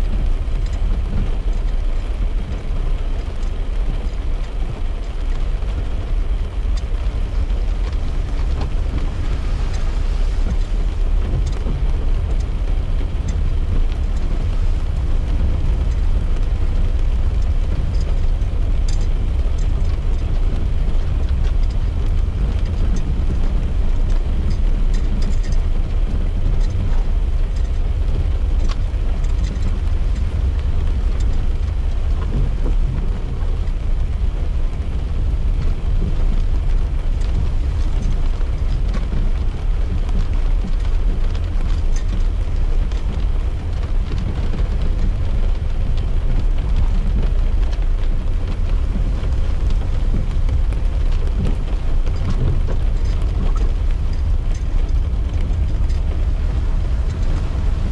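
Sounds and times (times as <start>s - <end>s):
car road and engine rumble: 0.0s - 57.9s
raindrops ticking on glass: 0.1s - 57.9s.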